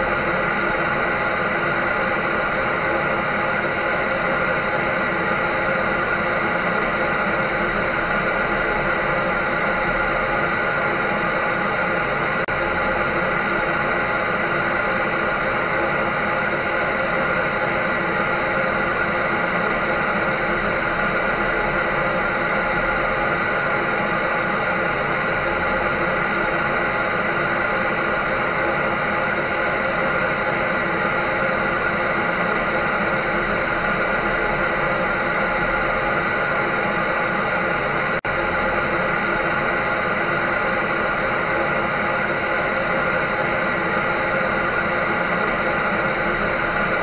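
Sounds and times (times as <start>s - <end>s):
clothes dryer whirring: 0.0s - 47.0s.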